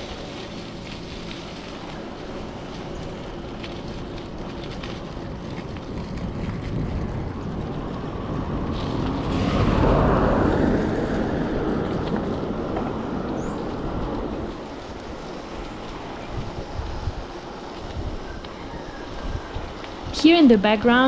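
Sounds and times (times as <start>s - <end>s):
wind rushing over microphone: 2.0s - 21.0s.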